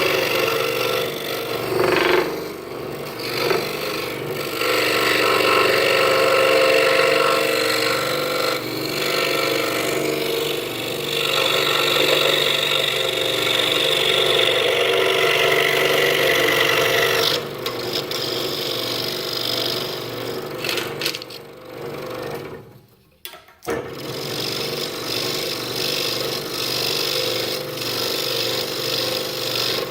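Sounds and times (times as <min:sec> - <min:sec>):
scroll saw cutting wood: 0:00.0 - 0:21.5, 0:23.7 - 0:29.9.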